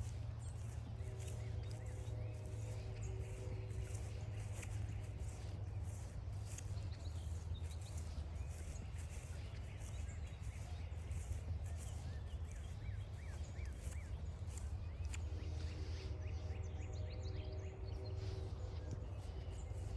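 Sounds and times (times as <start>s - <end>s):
bird chirping: 0.0s - 19.9s
footsteps on forest trail: 0.0s - 19.9s
steady low rumble: 0.0s - 19.9s.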